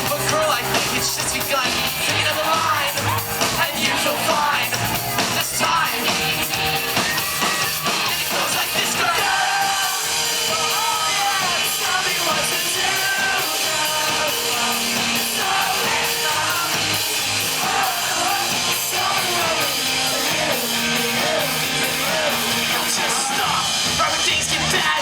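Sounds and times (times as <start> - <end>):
drum beat and cymbals: 0.0 - 25.0
pop-rock band playing: 0.0 - 25.0
voices singing and yelling: 0.0 - 25.0.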